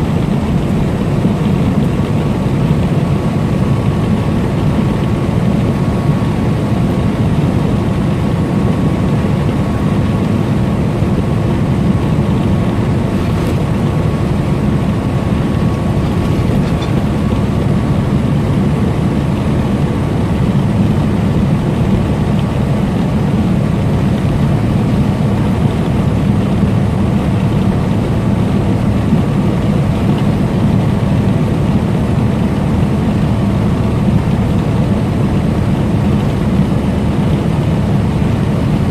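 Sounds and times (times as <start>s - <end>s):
road noise: 0.0s - 38.9s
truck diesel engine drone: 0.0s - 38.9s.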